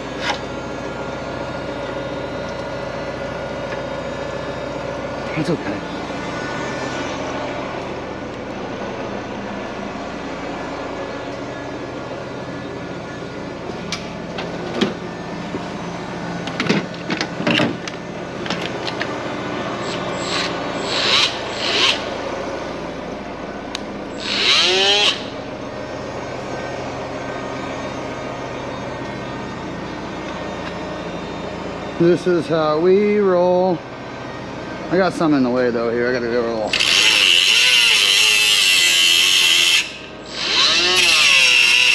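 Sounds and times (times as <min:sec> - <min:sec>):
steady low hum: 0:00.0 - 0:36.8.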